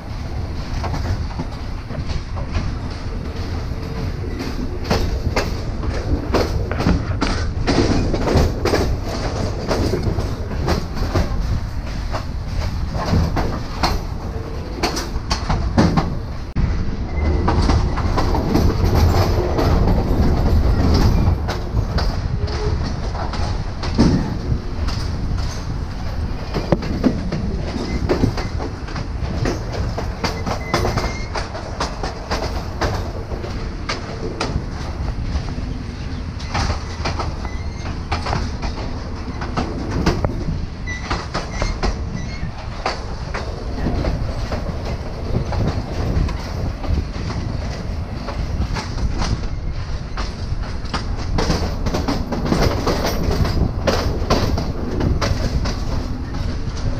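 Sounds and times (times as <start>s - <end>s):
train rumble: 0.0s - 56.9s
wheel clacks over track: 0.1s - 16.6s, 17.2s - 56.9s.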